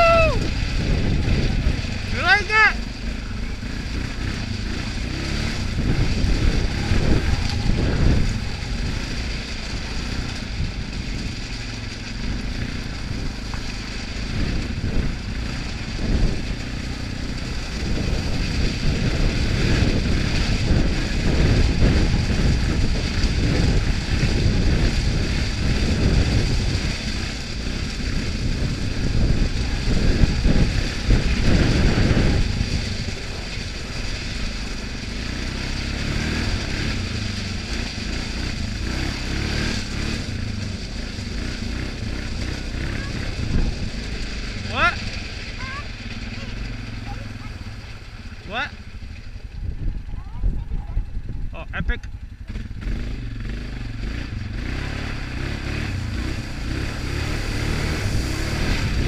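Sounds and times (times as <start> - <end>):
tyres on gravel: 0.0 - 51.1, 52.1 - 59.0
atv engine running: 0.0 - 59.0
wind noise: 0.0 - 59.0.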